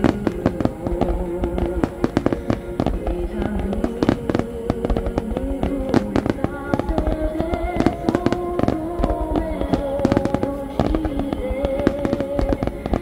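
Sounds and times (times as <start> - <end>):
firework shells bursting: 0.0 - 13.0
music with slow held melody: 0.0 - 13.0.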